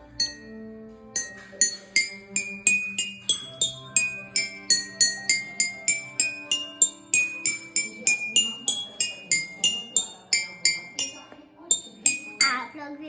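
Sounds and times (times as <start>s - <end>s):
toy xylophone notes: 0.0s - 12.8s.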